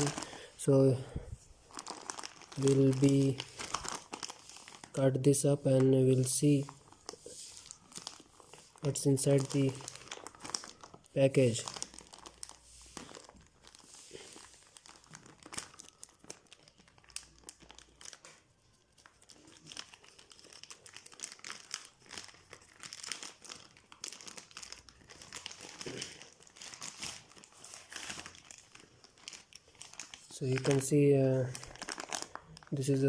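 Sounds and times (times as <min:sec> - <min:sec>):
packaging crinkling: 0:00.0 - 0:33.0.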